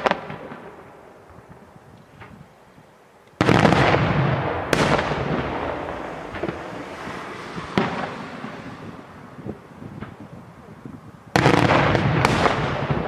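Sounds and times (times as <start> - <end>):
fireworks bangs and crackling: 0.0 - 2.5, 3.3 - 13.0.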